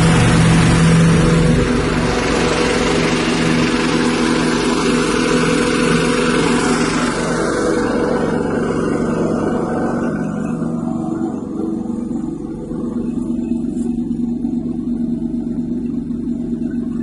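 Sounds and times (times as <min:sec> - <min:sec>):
loud rushing noise: 0:00.0 - 0:13.8
small petrol engine running: 0:00.0 - 0:17.0.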